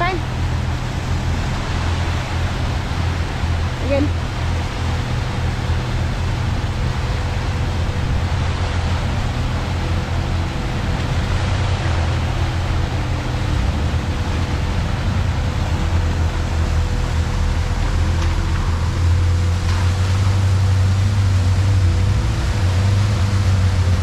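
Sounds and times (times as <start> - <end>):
engine running at low speed: 0.0 - 24.0
rushing water: 0.0 - 24.0.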